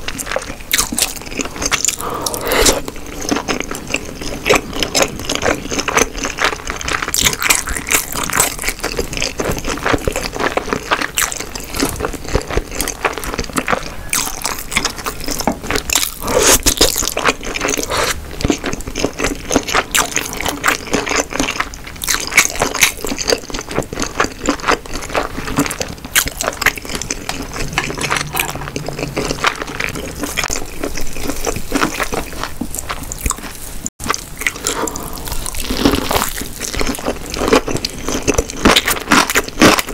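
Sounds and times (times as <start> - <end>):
chewing with wet mouth sounds: 0.0 - 39.9.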